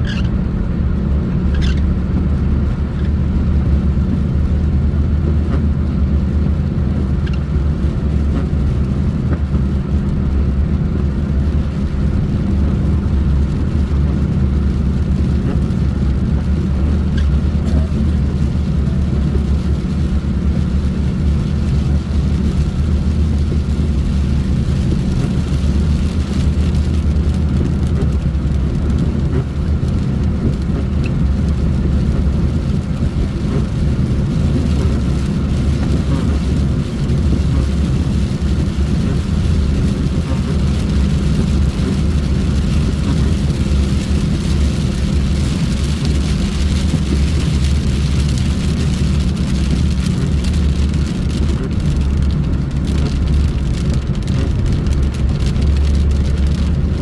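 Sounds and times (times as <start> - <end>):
car engine drone: 0.0 - 57.0
road rumble: 0.0 - 57.0.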